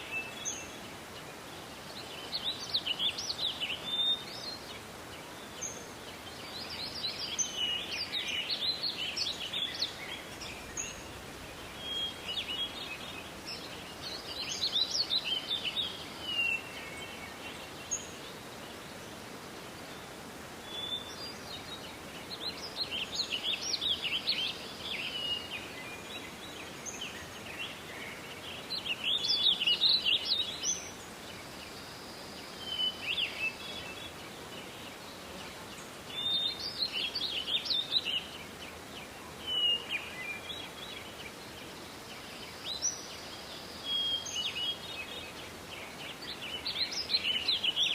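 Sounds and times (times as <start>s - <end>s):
faint forest hiss: 0.0s - 47.9s
songbirds twittering: 0.0s - 47.9s.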